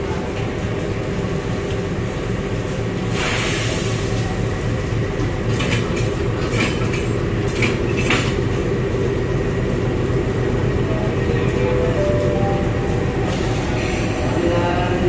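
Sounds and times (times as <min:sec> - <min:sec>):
diesel locomotive engine droning: 0:00.0 - 0:15.0.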